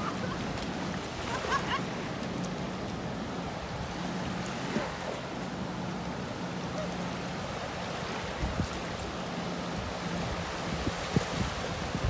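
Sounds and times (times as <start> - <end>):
waves washing onto shore: 0.0 - 12.0.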